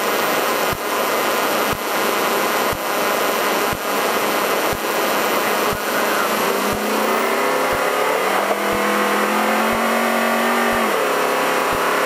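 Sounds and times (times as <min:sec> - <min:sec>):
truck engine: 0:01.6 - 0:12.0.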